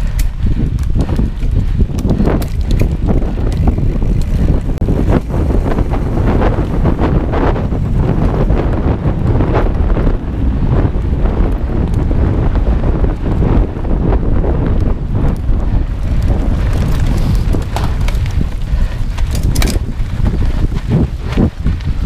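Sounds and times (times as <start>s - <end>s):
bike knocks and rattles: 0.0s - 13.6s, 14.5s - 22.0s
tyres rumbling on dirt: 0.0s - 13.6s, 14.9s - 22.0s
wind buffeting microphone: 0.0s - 22.0s.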